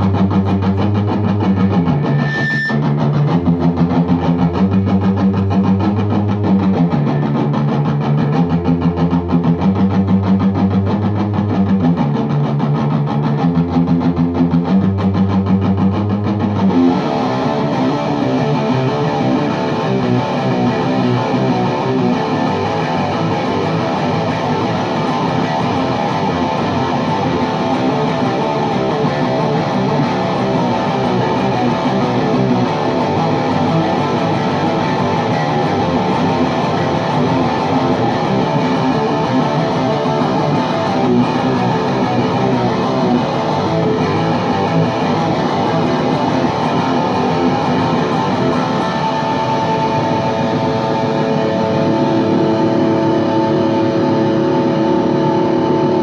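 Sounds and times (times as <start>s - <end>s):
distorted electric guitar riffing: 0.0s - 56.0s.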